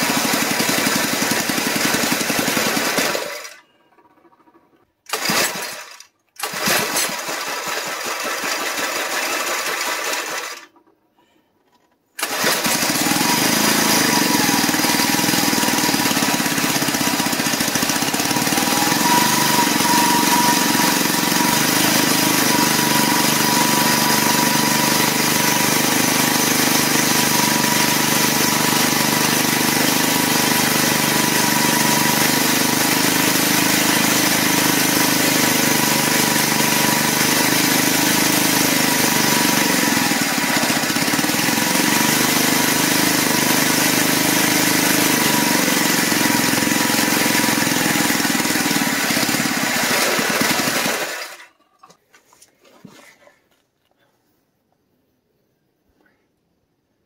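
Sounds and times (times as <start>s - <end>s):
mini bike engine running: 0.0s - 10.8s, 12.2s - 51.5s.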